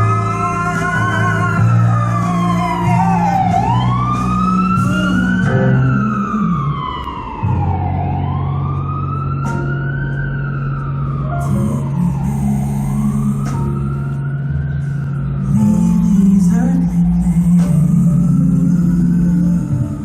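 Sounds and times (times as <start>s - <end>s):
emergency siren wailing: 0.0s - 20.0s.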